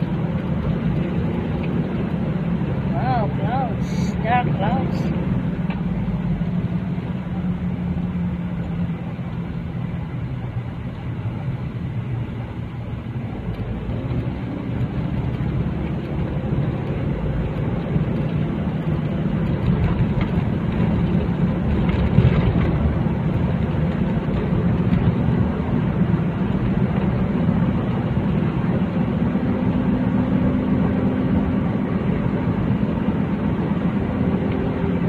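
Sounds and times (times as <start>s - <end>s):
vehicle engine and road noise: 0.0s - 35.0s.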